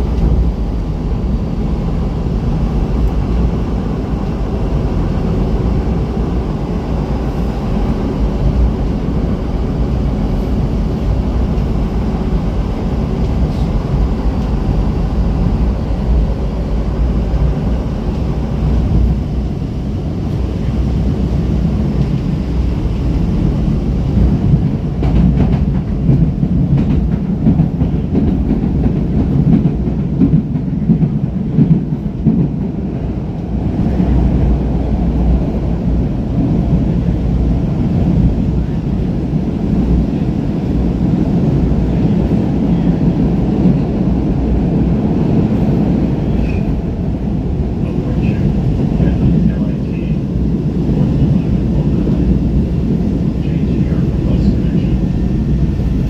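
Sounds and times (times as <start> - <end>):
train rumbling and rattling: 0.0 - 56.0.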